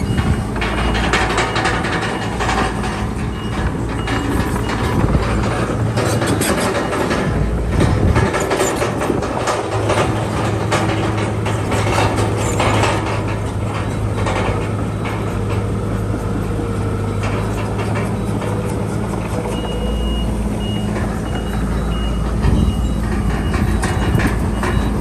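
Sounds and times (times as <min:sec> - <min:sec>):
diesel engine running: 0:00.0 - 0:25.0
steel tracks clanking: 0:00.0 - 0:25.0.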